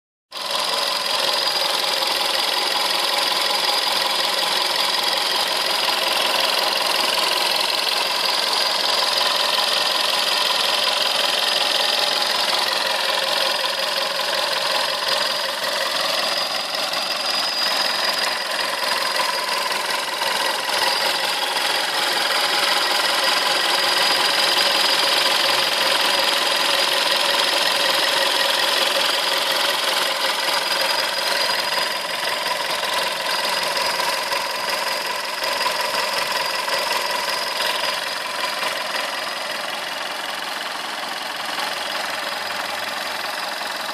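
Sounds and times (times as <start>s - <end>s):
car engine idling with ticking: 0.4s - 43.9s.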